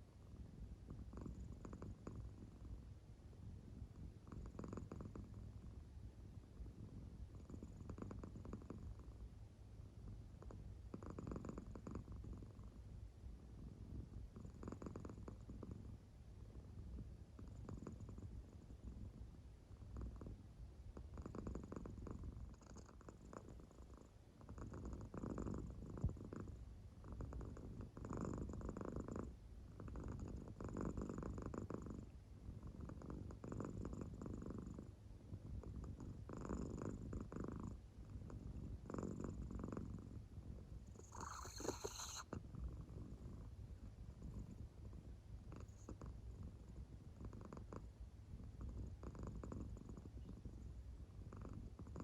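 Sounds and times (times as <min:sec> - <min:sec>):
cat purring faintly: 0:00.0 - 0:52.0.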